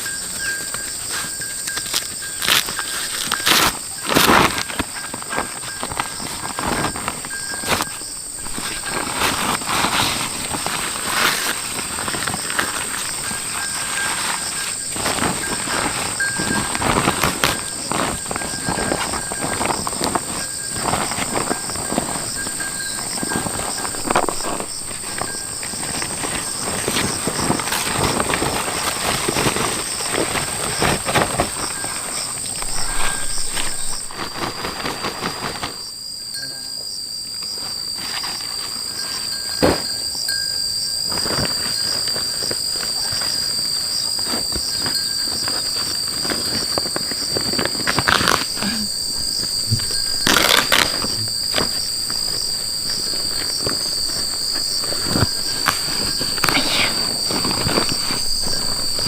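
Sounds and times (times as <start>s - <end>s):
insects calling high-pitched whine: 0.0s - 59.0s.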